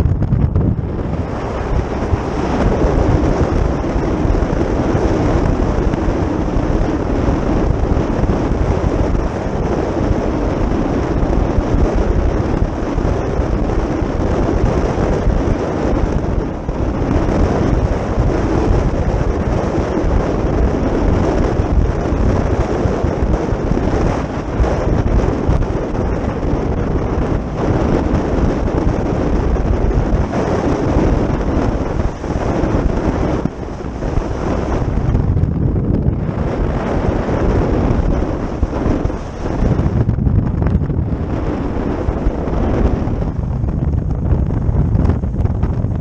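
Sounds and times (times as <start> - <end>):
vehicle rumble: 0.0 - 46.0
wind on microphone: 0.0 - 46.0.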